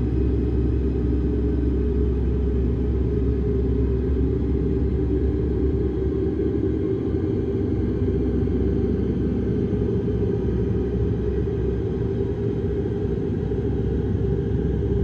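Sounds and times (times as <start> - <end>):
dark low rumble drone: 0.0 - 15.0.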